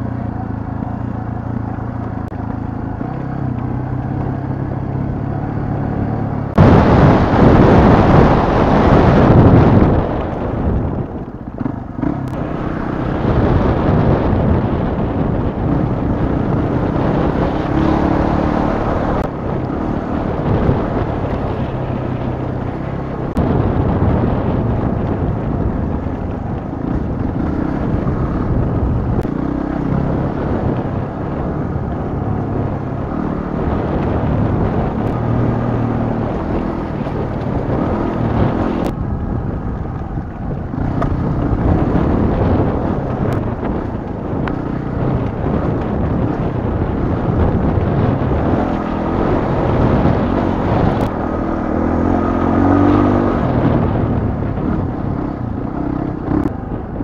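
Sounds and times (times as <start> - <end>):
motorcycle engine under load: 0.0 - 57.0
wind noise on microphone: 3.0 - 57.0.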